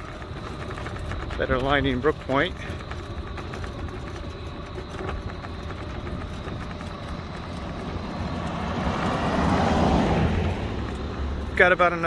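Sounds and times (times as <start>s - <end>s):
car approaching: 0.0s - 12.0s
low outdoor rumble: 0.0s - 12.0s.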